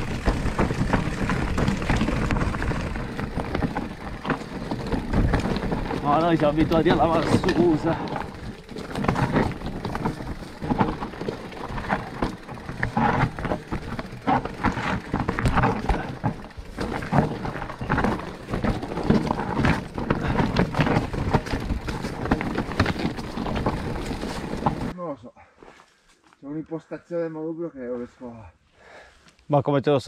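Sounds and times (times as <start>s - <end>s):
bike knocking and rattling: 0.0s - 24.9s
bike tyres clattering over stones: 0.0s - 24.9s.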